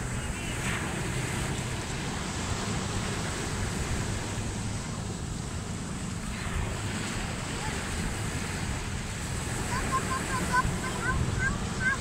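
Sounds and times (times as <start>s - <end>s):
ocean surf washing ashore: 0.0s - 12.0s
wind buffeting microphone: 0.0s - 12.0s.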